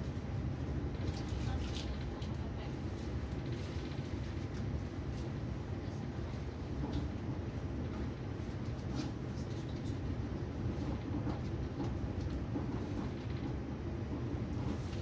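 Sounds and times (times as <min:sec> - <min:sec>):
train rumbling at speed: 0:00.0 - 0:15.0.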